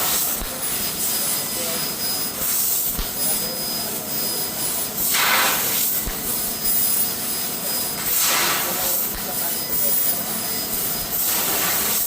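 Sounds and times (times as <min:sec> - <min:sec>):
faint high whine: 0:00.0 - 0:11.8
laser cutter gas hiss: 0:00.0 - 0:12.0.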